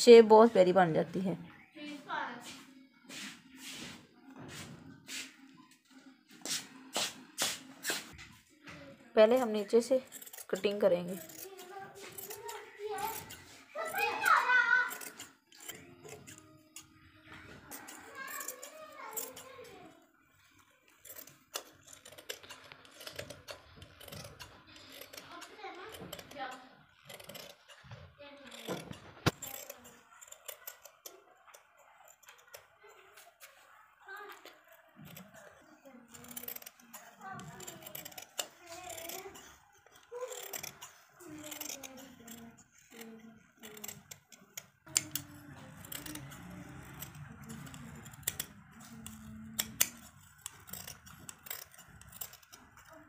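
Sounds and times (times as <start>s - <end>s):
scissors snipping fabric: 9.2s - 20.0s, 20.9s - 53.0s.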